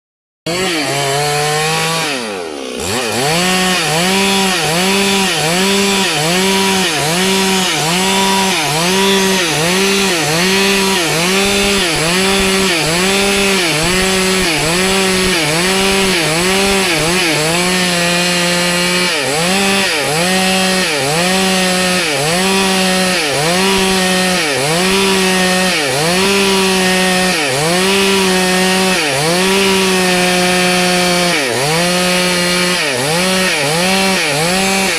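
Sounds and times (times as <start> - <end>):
chainsaw cutting wood: 0.5 - 34.9.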